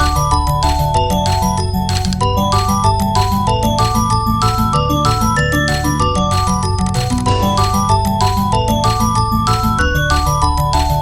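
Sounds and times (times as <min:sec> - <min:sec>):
chime-like melody: 0:00.0 - 0:11.0.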